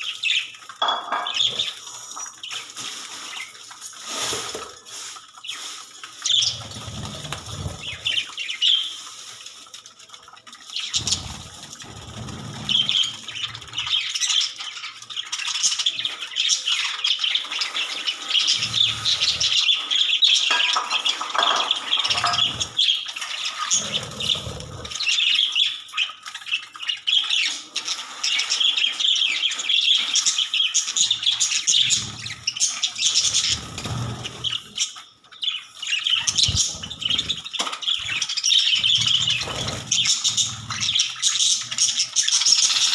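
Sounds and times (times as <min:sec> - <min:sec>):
parrots chirping and chattering: 0:00.0 - 0:42.9.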